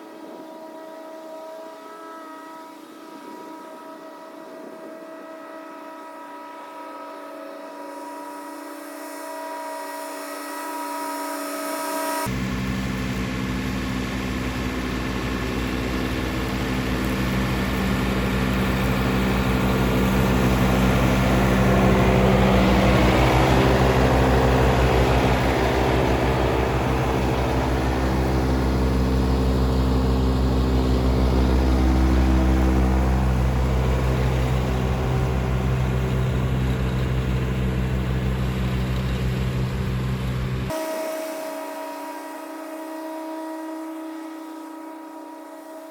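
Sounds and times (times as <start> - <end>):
diesel tractor mowing grass: 7.9 - 45.9.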